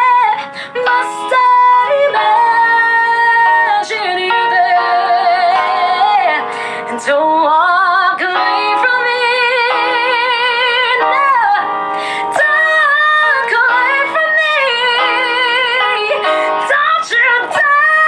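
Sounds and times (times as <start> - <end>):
electronic keyboard: 0.0 - 18.0
woman singing a power ballad: 0.0 - 18.0.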